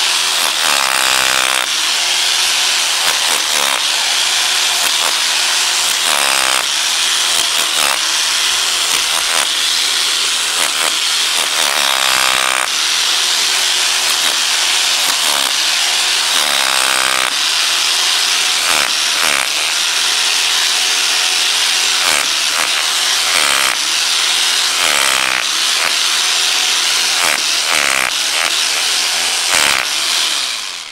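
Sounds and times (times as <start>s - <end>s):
hammer drill breaking concrete: 0.0s - 30.9s.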